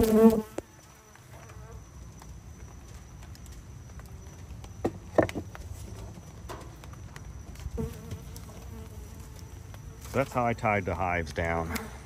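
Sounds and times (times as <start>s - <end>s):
honey bees humming: 0.0s - 12.0s.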